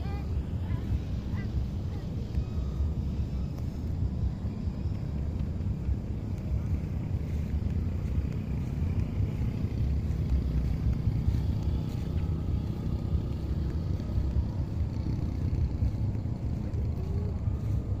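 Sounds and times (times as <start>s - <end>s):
rc airplane motor whine: 0.0s - 18.0s
wind rumbling on microphone: 0.0s - 18.0s.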